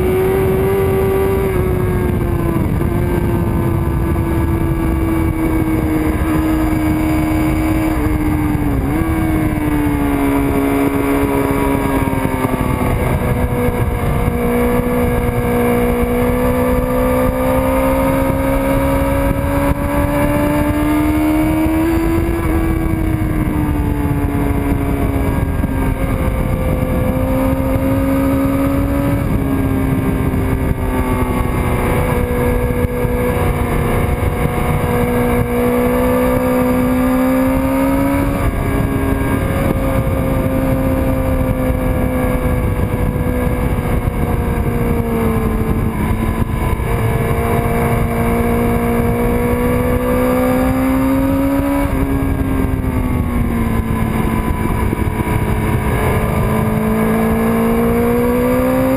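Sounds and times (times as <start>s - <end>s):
motorcycle engine revving: 0.0s - 58.9s
wind rushing over microphone: 0.0s - 58.9s.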